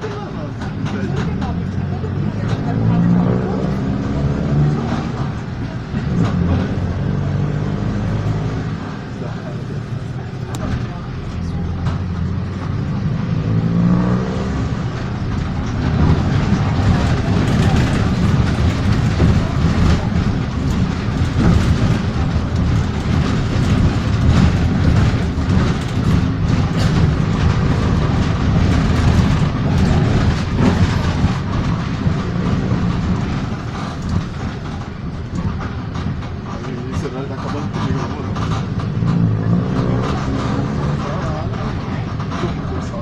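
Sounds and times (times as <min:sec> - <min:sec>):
bus diesel engine rumble: 0:00.0 - 0:43.0
bus rattling and clatter: 0:00.0 - 0:43.0.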